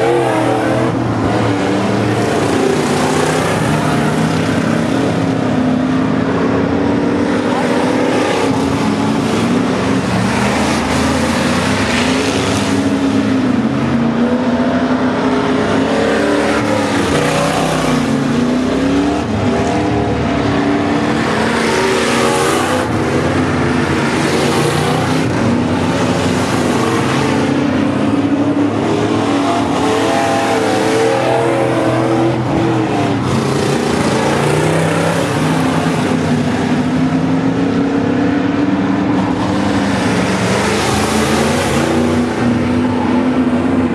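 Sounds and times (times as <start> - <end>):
race car engines revving: 0.0 - 43.9.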